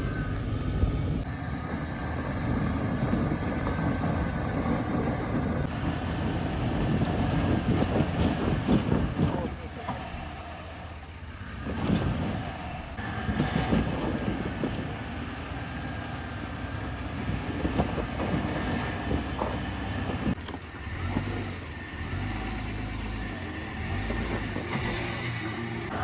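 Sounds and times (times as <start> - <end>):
off-road vehicle rumbling: 0.0 - 26.0
suspension knocks and clunks: 0.0 - 26.0.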